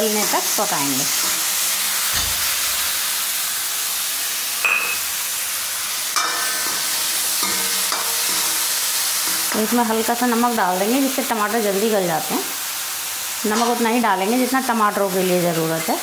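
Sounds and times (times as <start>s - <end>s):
tomatoes sizzling in hot fat: 0.0s - 16.0s.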